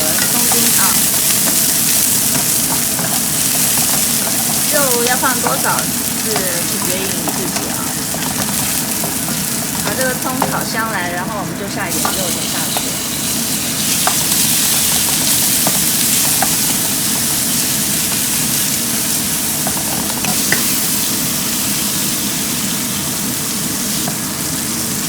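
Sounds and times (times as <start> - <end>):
pork sizzling in oil: 0.0 - 25.0.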